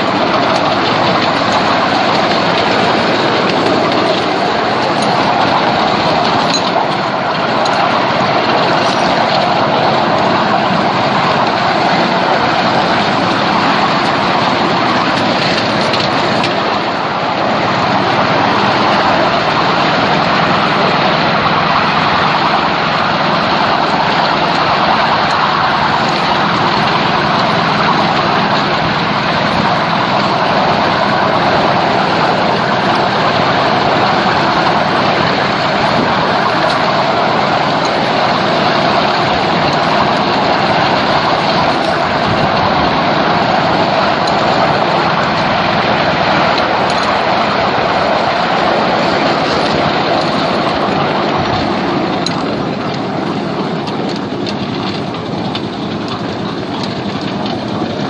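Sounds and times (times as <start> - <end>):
miniature train running on track: 0.0 - 58.0.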